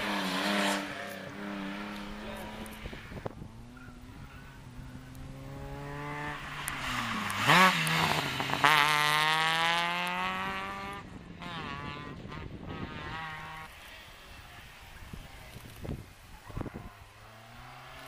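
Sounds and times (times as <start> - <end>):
rally car engine revving past: 0.0 - 13.8, 17.2 - 18.0.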